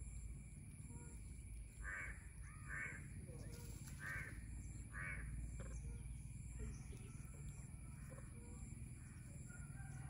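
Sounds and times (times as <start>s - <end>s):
faint high insect chirp: 0.0s - 10.0s
soft bird calls: 0.0s - 10.0s.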